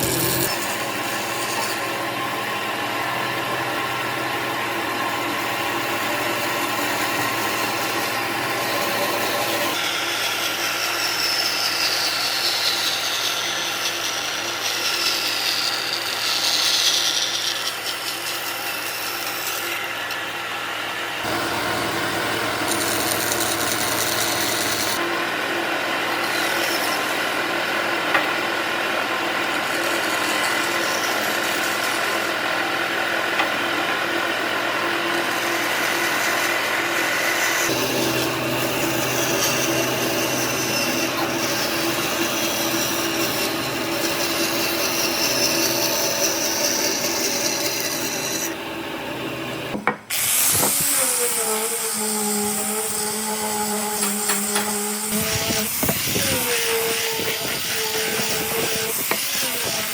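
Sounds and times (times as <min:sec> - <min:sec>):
electric woodworking tool cutting wood: 0:00.0 - 0:59.9.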